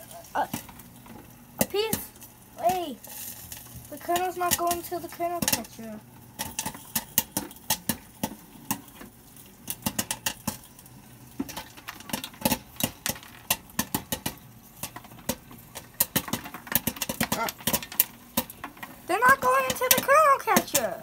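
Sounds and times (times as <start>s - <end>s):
popcorn popping: 0.0s - 21.0s.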